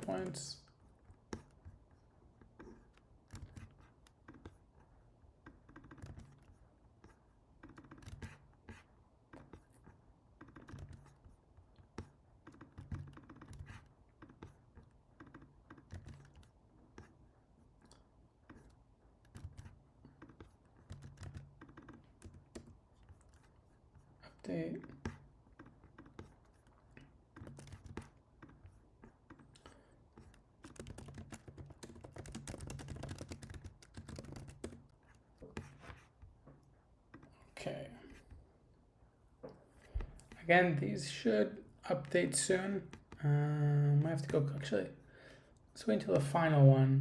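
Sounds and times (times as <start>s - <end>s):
faint keyboard typing: 0.0s - 38.5s, 39.3s - 46.4s.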